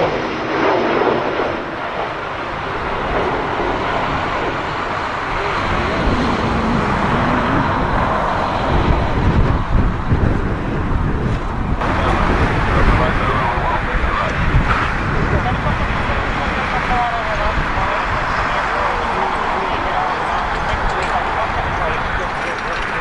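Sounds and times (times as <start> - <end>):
jet engines: 0.0 - 23.0
wind buffeting microphone: 0.0 - 23.0.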